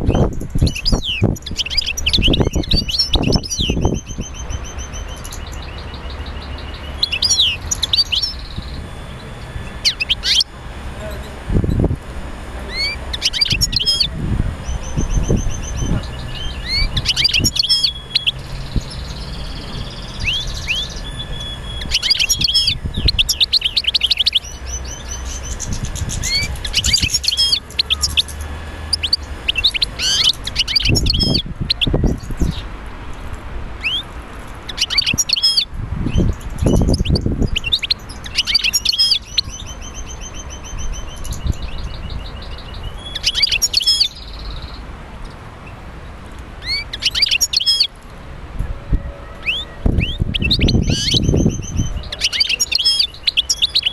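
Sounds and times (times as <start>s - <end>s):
birds chirping and trilling: 0.0s - 48.0s, 48.8s - 53.9s.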